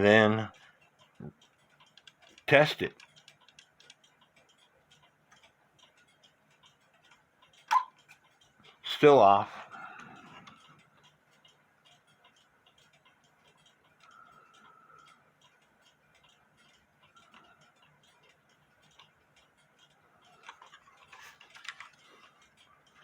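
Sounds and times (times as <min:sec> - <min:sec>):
clock clicks: 0:00.0 - 0:23.0
clock ticking faintly: 0:00.0 - 0:23.0.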